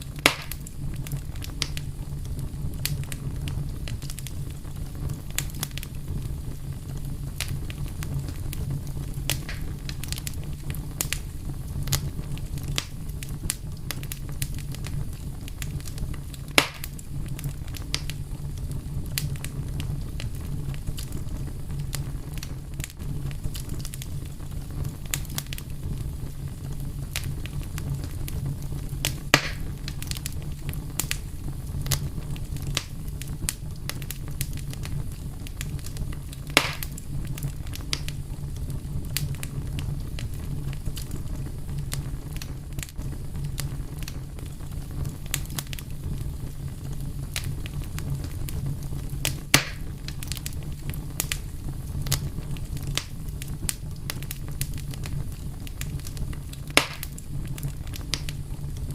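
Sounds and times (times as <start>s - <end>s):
fire crackling: 0.0s - 58.9s
fire popping: 0.0s - 58.9s.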